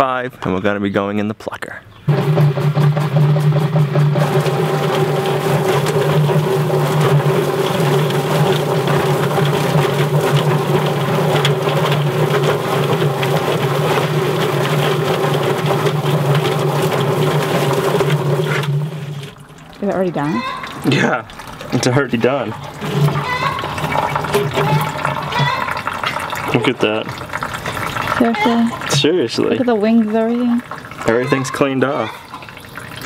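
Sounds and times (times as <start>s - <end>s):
motor hum: 2.1s - 28.8s
rapid slapping and rattling: 2.1s - 31.6s
hose water spraying: 2.1s - 33.0s.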